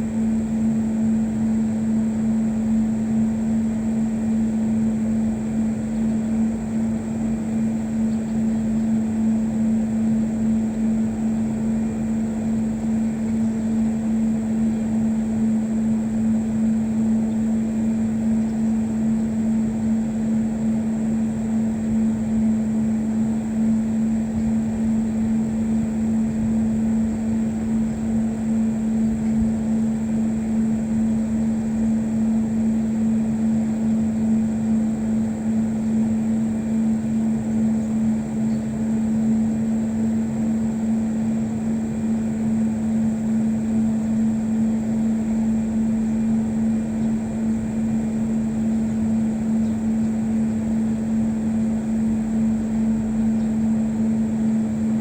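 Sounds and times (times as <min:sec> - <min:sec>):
steady mechanical drone: 0:00.0 - 0:55.0.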